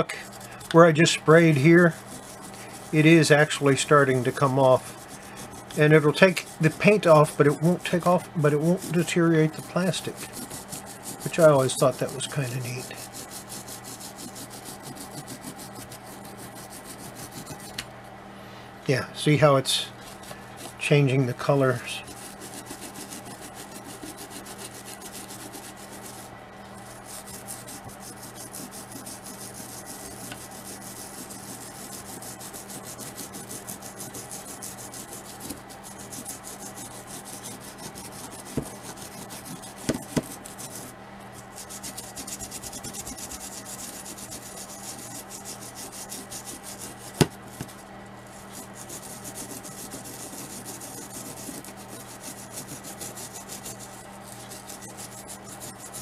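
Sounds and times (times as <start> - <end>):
toothbrush scrubbing plastic: 0.0 - 17.9, 19.4 - 56.0.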